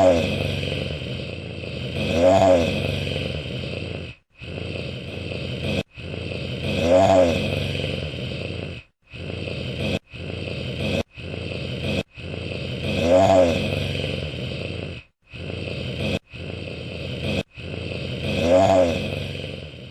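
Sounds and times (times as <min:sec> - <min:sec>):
pitched groan: 0:00.0 - 0:19.9
wolf growling: 0:00.0 - 0:19.9.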